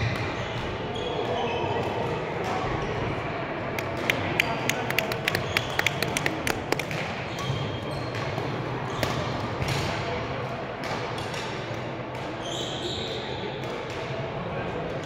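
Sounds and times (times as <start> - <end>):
large hall hum: 0.0 - 15.0.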